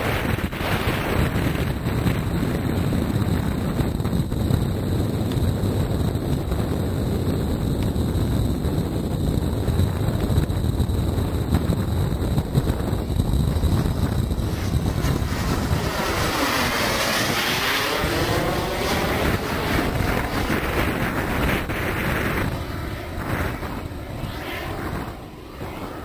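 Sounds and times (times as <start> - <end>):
jet turbines whooshing past: 0.0 - 26.0
wind rumble on microphone: 0.0 - 26.0.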